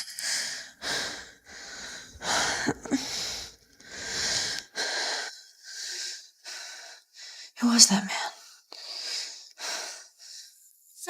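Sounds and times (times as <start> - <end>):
woman breathing hard and wheezing: 0.0 - 7.6, 8.3 - 10.7.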